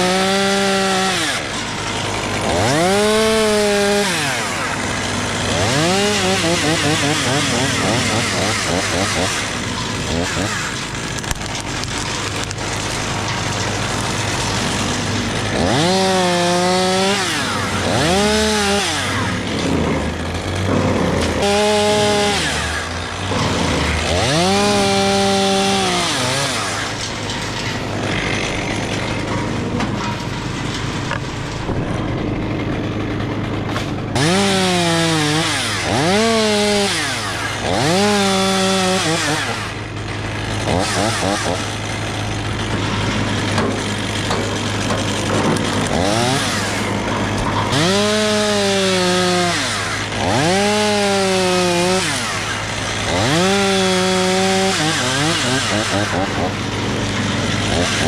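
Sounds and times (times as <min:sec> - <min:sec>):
chainsaw revving cutting wood: 0:00.0 - 0:58.0.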